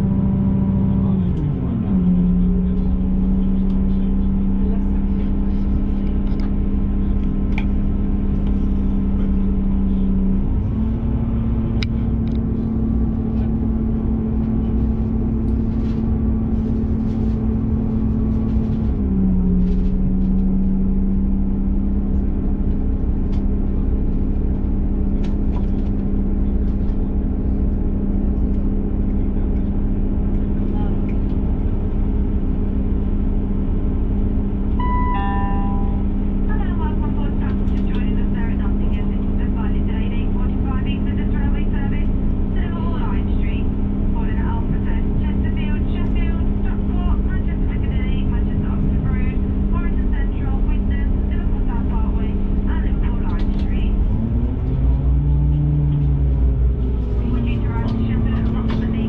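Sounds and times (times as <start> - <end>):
diesel train engine humming: 0.0 - 59.0.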